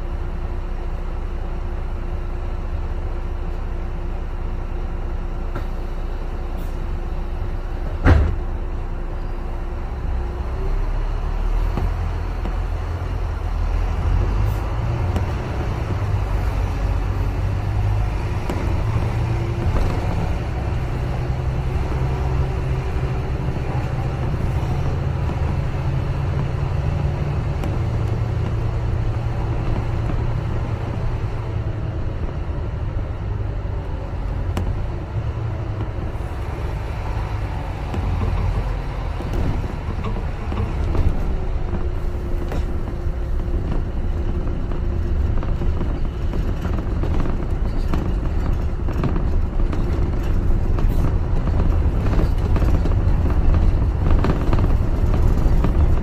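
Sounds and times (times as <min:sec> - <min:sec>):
bus engine drone: 0:00.0 - 0:56.0
road rumble: 0:00.0 - 0:56.0.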